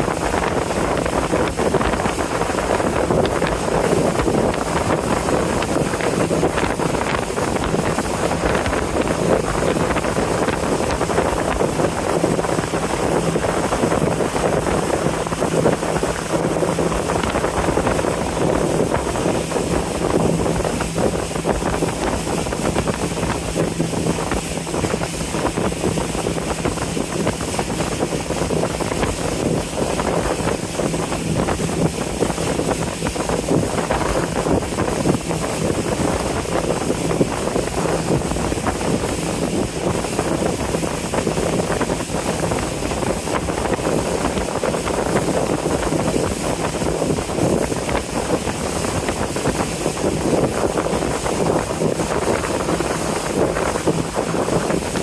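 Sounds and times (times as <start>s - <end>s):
boat engine humming: 0.0s - 55.0s
wind buffeting microphone: 0.0s - 55.0s.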